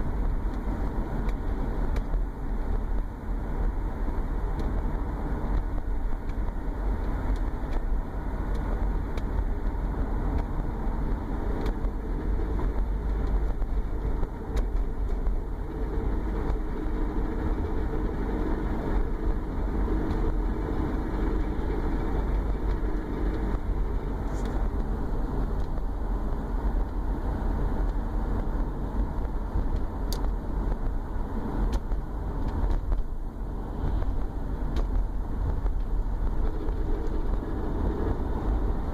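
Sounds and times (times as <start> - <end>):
car engine: 0.0 - 38.9
low drone under engine: 0.0 - 38.9
road noise: 0.0 - 38.9.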